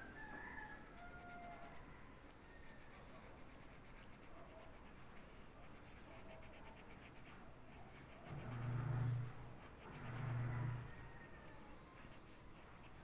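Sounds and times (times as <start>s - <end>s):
pencil scratching on paper: 0.8s - 1.9s, 2.7s - 11.0s, 11.9s - 13.0s.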